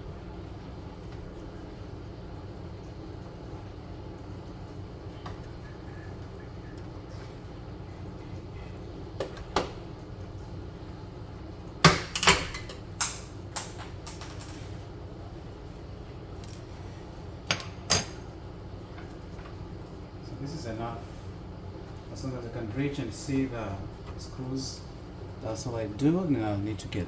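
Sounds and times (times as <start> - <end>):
low background hum: 0.0 - 27.0.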